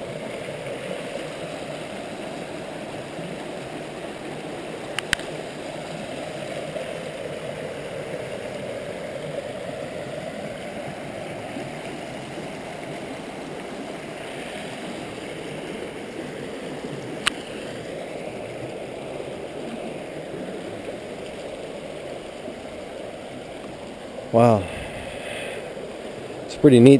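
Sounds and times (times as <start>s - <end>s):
water rushing over rapids: 0.0s - 26.9s.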